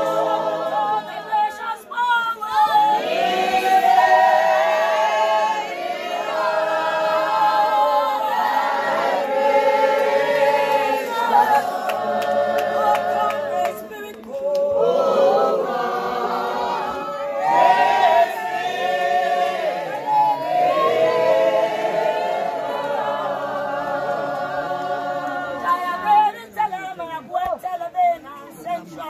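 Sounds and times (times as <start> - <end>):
congregation singing a cappella: 0.0 - 26.3.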